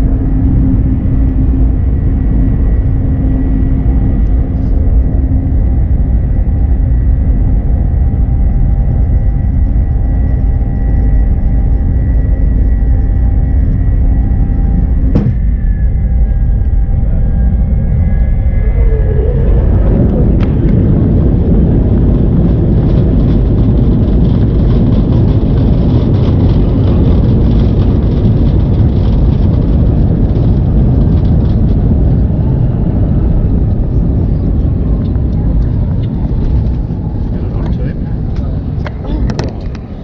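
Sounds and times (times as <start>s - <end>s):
jet engine rumble in cabin: 0.0s - 40.0s.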